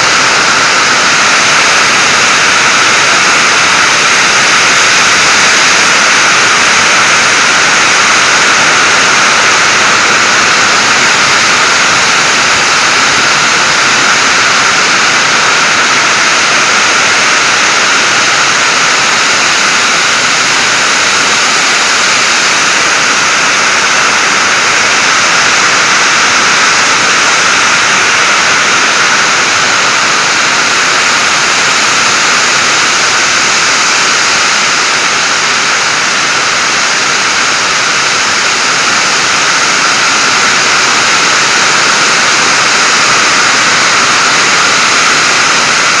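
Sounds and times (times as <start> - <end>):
hail and rain on a metal roof: 0.0 - 46.0.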